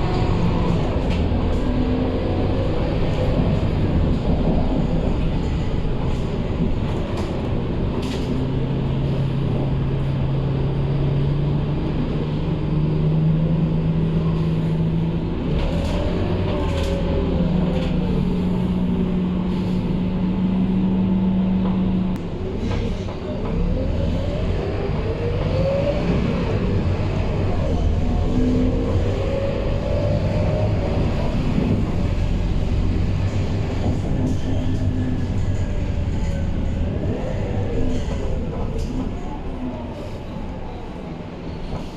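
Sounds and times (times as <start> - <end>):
bus diesel engine drone: 0.0 - 41.9.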